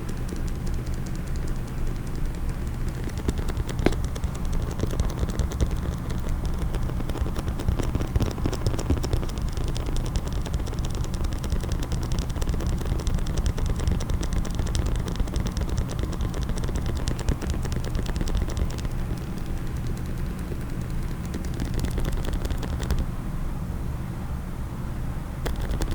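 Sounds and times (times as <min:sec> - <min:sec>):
fast tapping on a case: 0:00.0 - 0:23.1, 0:25.4 - 0:25.9.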